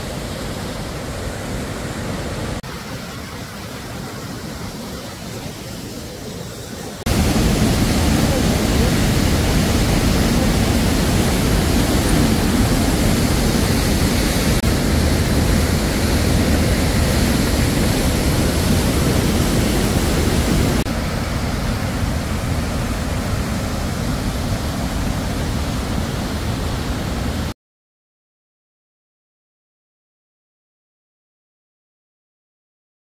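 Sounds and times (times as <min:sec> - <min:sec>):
waterfall rushing over rocks: 0:00.0 - 0:27.5.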